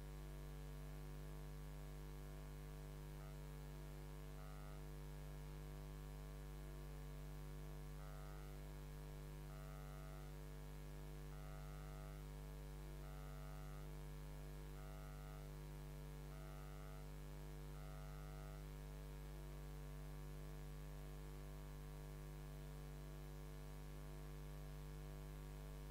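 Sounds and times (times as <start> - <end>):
faint pulsing higher buzz: 0.0 - 25.9
electrical mains hum: 0.9 - 25.9.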